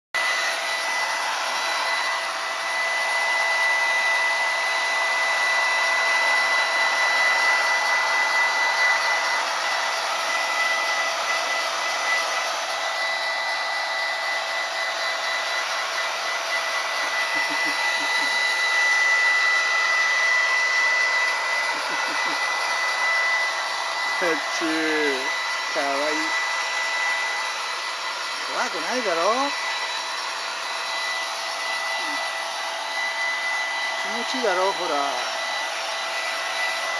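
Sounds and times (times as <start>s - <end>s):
hair dryer blowing with whine: 0.2s - 36.9s.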